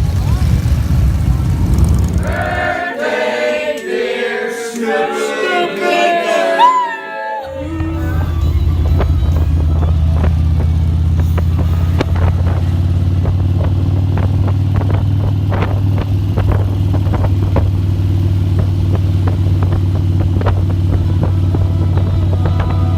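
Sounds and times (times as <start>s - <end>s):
motor engine droning: 0.0s - 4.1s, 7.4s - 22.9s.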